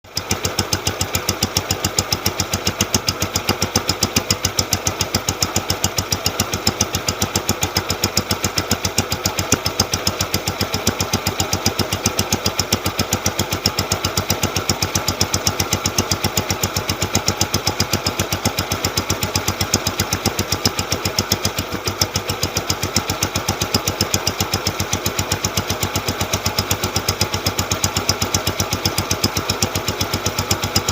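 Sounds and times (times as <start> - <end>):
motorcycle diesel engine running: 0.0 - 30.9.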